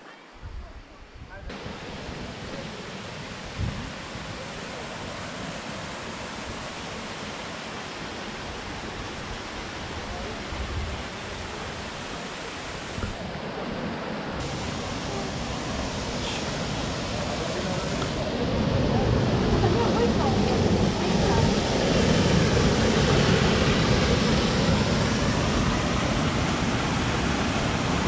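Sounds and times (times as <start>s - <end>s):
mountain stream rushing over stones: 1.5s - 28.0s.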